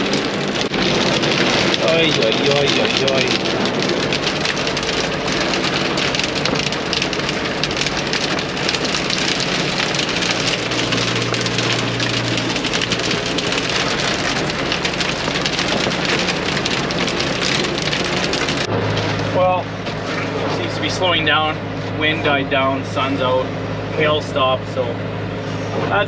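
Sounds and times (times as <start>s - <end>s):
hail and rain drumming on cab: 0.0s - 21.3s
tractor engine running: 0.0s - 26.0s.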